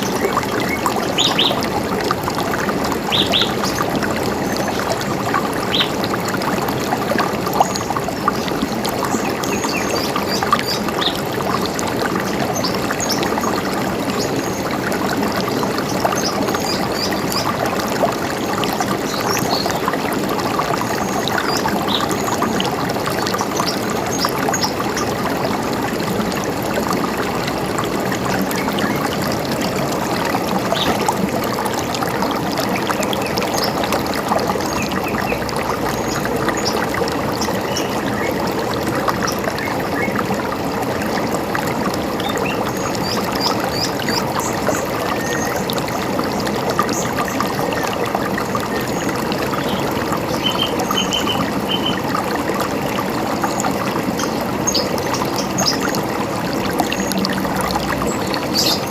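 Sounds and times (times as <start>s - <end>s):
river water running: 0.0s - 58.9s.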